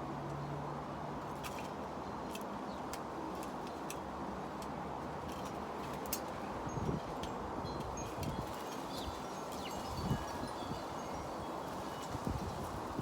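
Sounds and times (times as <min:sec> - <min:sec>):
steady wind: 0:00.0 - 0:13.0.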